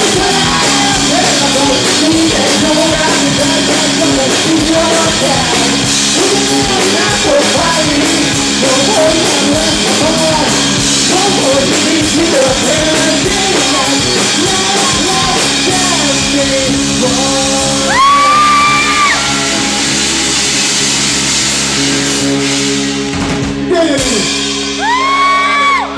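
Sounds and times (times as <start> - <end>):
person singing lead vocal: 0.0 - 20.8
drums: 0.0 - 25.9
electric guitar: 0.0 - 25.9.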